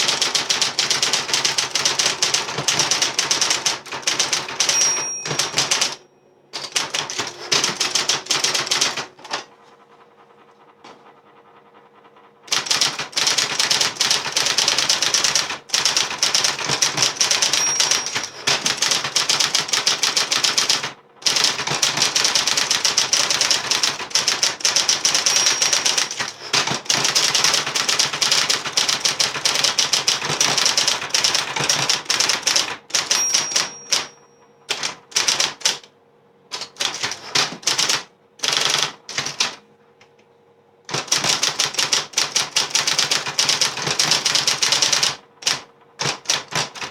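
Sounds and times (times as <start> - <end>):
typewriter key strikes: 0.0 - 6.0, 6.6 - 9.5, 12.5 - 34.1, 34.7 - 35.9, 36.5 - 39.6, 40.9 - 46.9
typewriter bell ring: 0.0 - 9.4, 12.5 - 35.8, 36.5 - 39.5, 41.0 - 46.9
typewriter motor hum: 0.0 - 9.5, 12.4 - 35.9, 36.5 - 39.6, 40.8 - 46.9.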